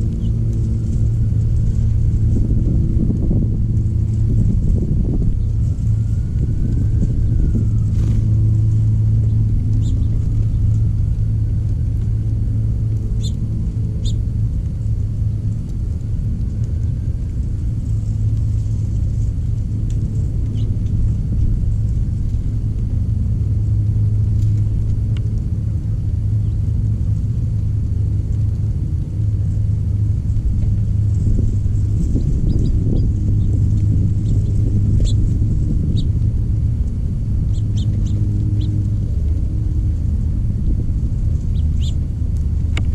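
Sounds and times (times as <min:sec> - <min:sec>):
steady low rumble: 0:00.0 - 0:42.9.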